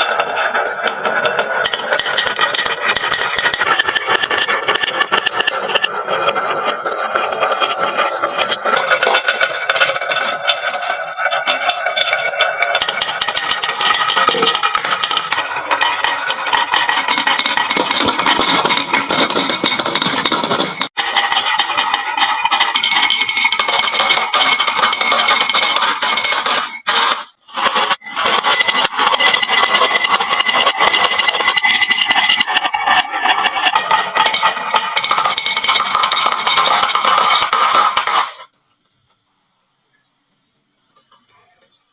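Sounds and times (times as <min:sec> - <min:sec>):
marbles clattering down wooden run: 0:00.0 - 0:38.5.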